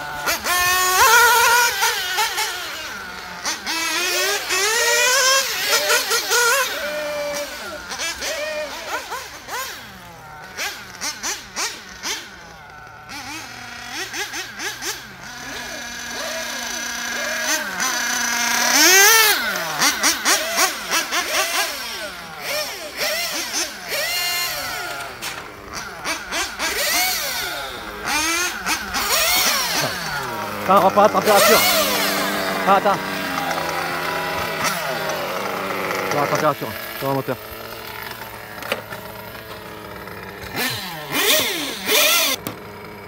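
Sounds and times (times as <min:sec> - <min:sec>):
rc car engine revving: 0:00.0 - 0:43.0.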